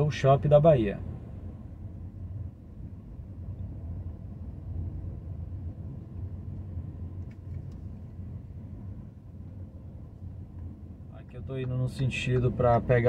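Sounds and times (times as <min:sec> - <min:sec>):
car engine rumble and road noise: 0:00.0 - 0:13.0.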